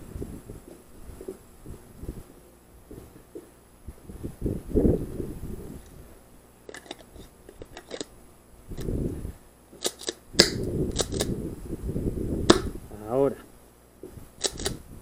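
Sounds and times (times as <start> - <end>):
handling and movement rumble: 0.0 - 15.0.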